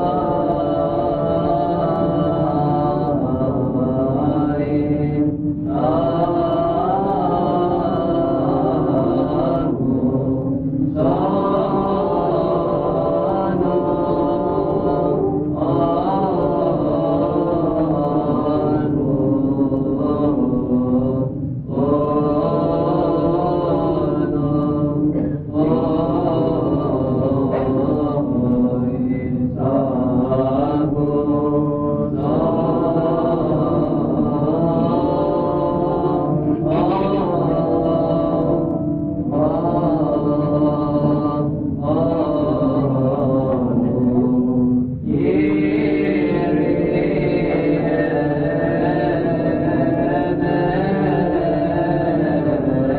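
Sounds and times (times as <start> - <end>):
low drone: 0.0 - 52.9
person chanting long notes: 0.0 - 52.9.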